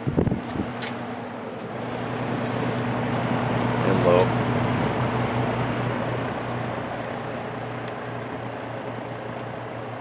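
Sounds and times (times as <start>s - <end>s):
fan air rushing: 0.0s - 10.0s
fan motor hum: 0.0s - 10.0s.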